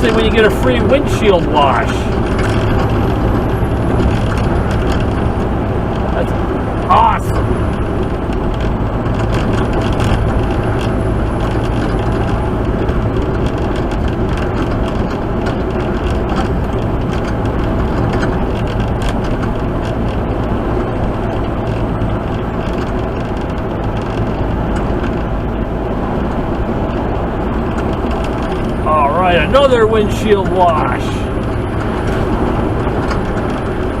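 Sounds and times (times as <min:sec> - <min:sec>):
road and tyre noise: 0:00.0 - 0:34.0
truck engine hum: 0:00.0 - 0:34.0.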